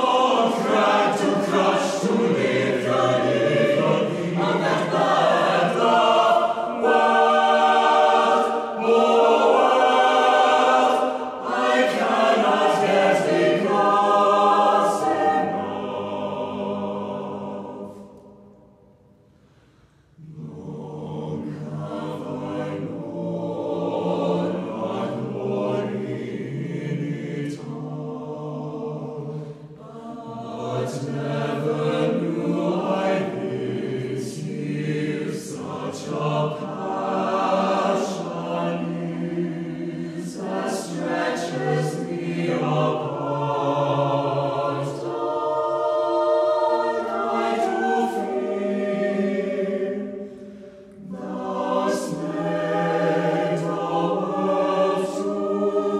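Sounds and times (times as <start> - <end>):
choir singing sustained chords: 0.0 - 55.9.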